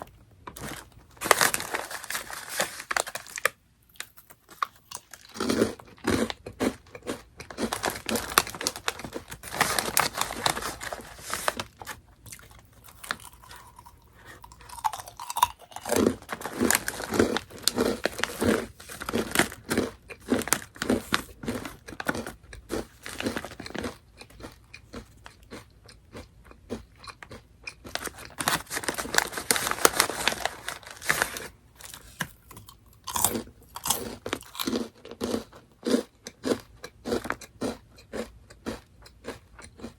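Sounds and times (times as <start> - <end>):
crunching and chewing snack: 0.0 - 39.9.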